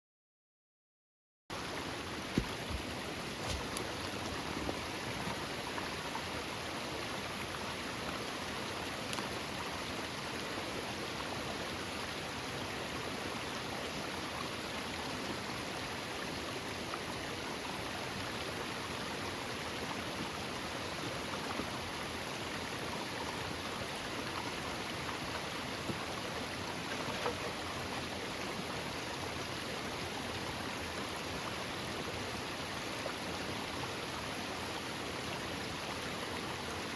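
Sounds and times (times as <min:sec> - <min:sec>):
stream rushing: 0:01.5 - 0:36.9.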